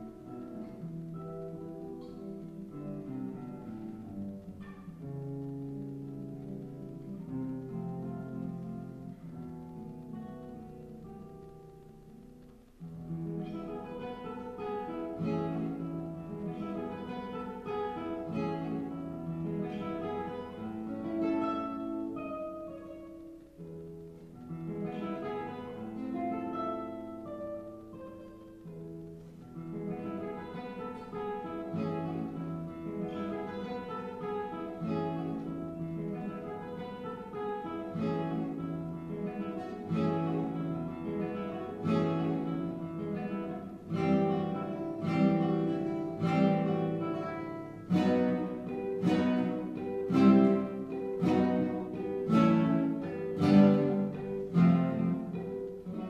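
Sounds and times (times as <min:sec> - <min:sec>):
classical guitar playing: 0:00.0 - 0:56.0.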